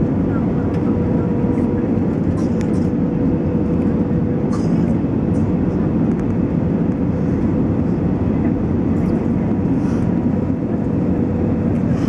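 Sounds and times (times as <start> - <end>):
aircraft cabin engine and airflow noise: 0.0 - 12.0.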